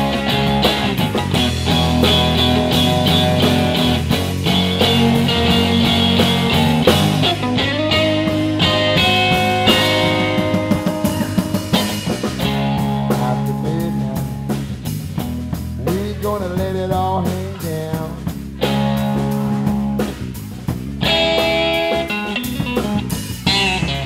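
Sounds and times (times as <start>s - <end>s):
blues band playing: 0.0s - 24.0s
electric guitar bent notes: 0.0s - 24.0s.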